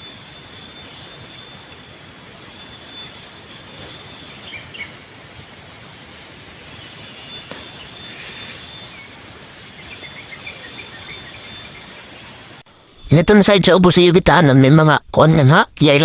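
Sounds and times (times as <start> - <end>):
steady hiss: 0.0 - 13.1
small birds chirping: 0.0 - 13.2.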